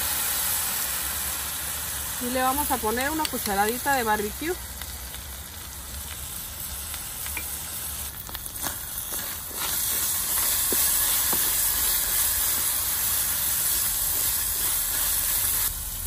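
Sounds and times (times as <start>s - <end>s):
rice sizzling in oil: 0.0s - 16.0s.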